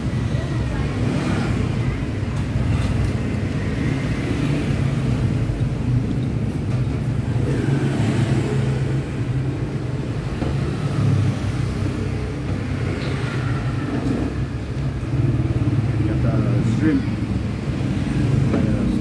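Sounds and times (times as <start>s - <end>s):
motorbikes passing: 0.0s - 19.0s.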